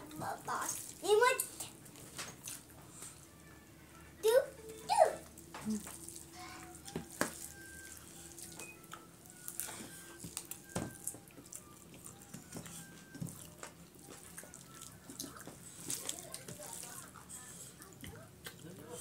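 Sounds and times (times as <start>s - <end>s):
chewing: 0.0s - 3.3s, 5.2s - 19.0s.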